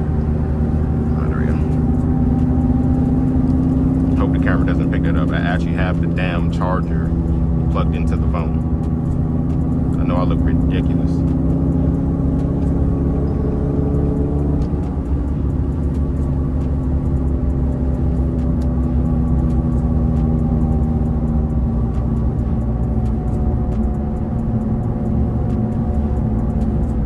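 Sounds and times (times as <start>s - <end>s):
car engine droning through loud exhaust: 0.0s - 27.0s.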